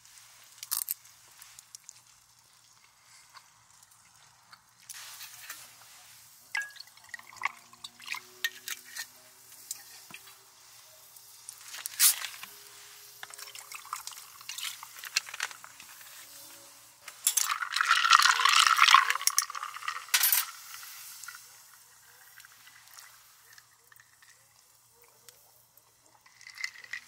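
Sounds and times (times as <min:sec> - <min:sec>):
liquid pouring: 0:01.4 - 0:10.3, 0:11.0 - 0:16.3, 0:17.1 - 0:24.9, 0:25.8 - 0:27.0.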